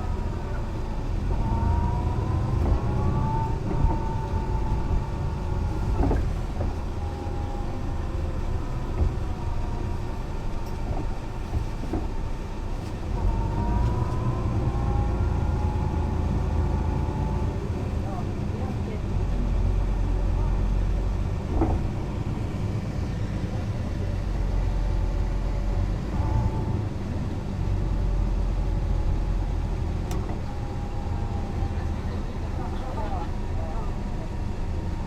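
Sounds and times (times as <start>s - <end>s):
bus engine rumble: 0.0s - 35.0s.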